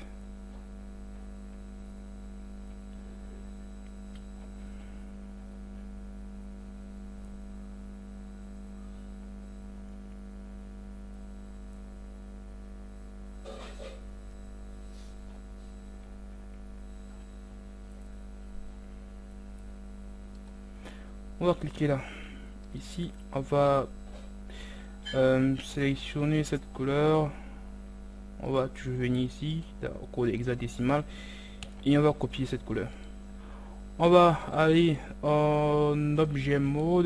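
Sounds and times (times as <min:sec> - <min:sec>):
electrical mains hum: 0:00.0 - 0:37.0.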